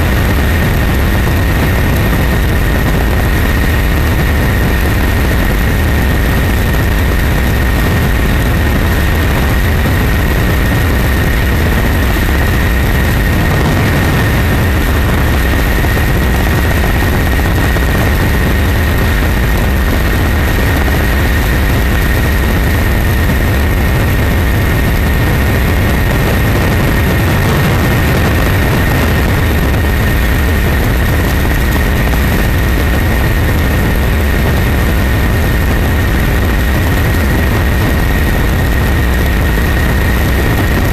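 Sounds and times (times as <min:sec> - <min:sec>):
helicopter engine and rotor rumble: 0:00.0 - 0:40.9
high whine: 0:00.0 - 0:40.9.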